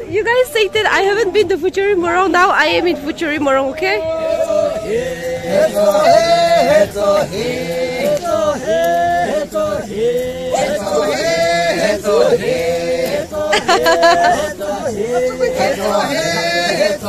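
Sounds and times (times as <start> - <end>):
men chanting together: 2.6 - 17.0.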